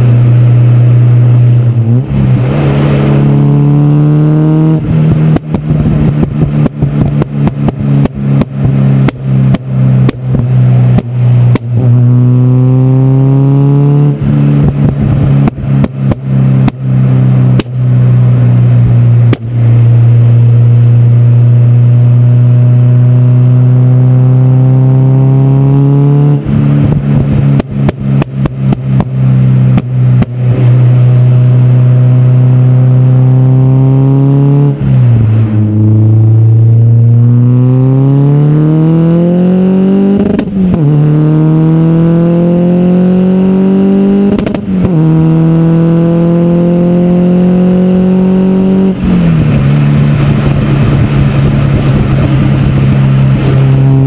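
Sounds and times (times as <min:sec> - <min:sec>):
car engine revving: 0:00.0 - 0:54.0
exhaust crackling and popping: 0:00.0 - 0:54.0.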